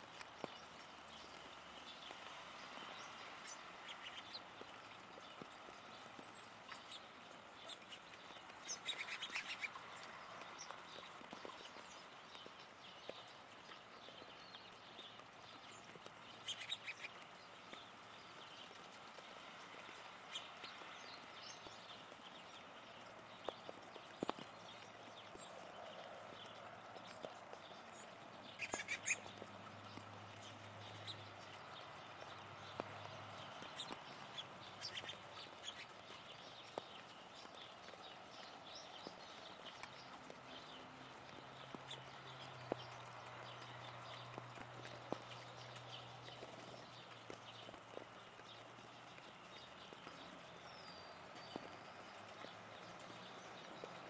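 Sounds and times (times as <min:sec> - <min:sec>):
light rain hiss: 0:00.0 - 0:54.0.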